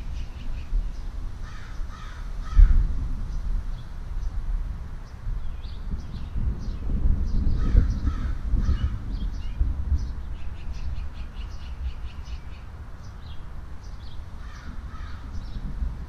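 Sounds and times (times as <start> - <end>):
birds calling: 0.0 - 4.4, 5.0 - 15.9.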